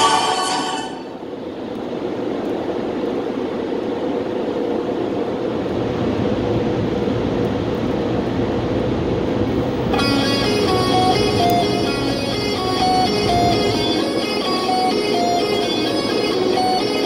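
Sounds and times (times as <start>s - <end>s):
car wash air dryers blowing: 0.0s - 17.0s.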